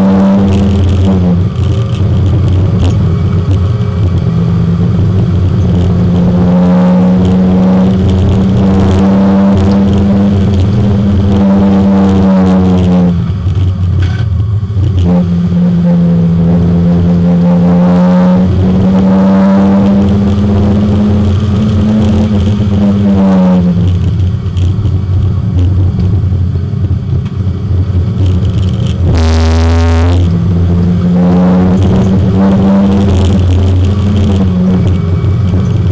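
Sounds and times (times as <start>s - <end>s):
race car engine at high revs: 0.0s - 35.9s.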